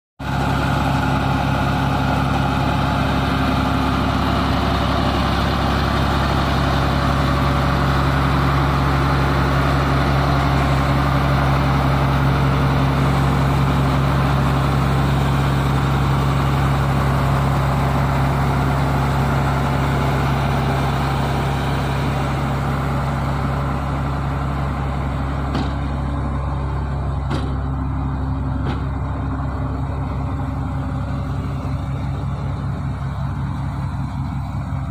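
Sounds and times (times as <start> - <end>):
diesel engine droning: 0.2 - 34.9.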